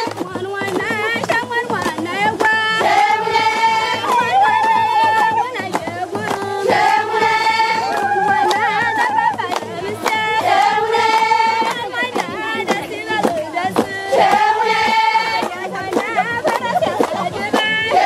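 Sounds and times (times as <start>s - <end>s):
rhythmic hand clapping: 0.0s - 18.0s
women singing together: 0.0s - 18.0s.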